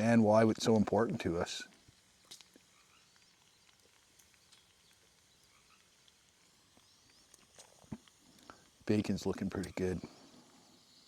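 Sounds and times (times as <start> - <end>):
bacon frying: 0.0 - 11.0
faint wood fire crackles: 0.0 - 11.0.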